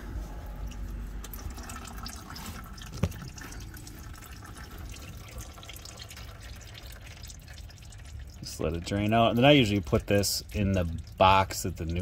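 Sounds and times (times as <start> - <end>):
oil dripping into a pan: 0.6 - 12.0.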